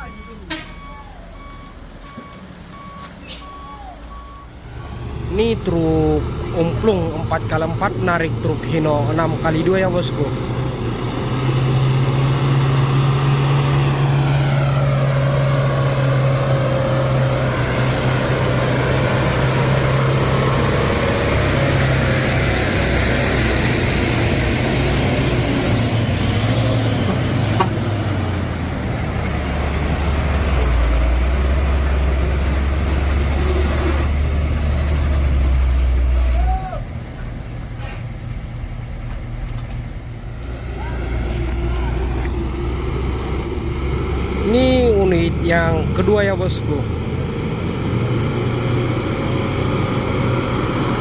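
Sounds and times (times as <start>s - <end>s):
truck diesel engines straining: 0.0s - 51.0s.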